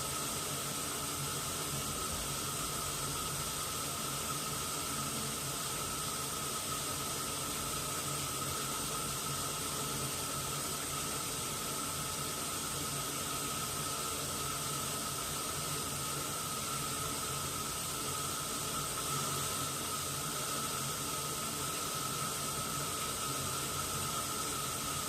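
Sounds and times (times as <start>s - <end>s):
thin steady whine: 0.0s - 25.0s
water running into washing machine: 0.0s - 25.0s.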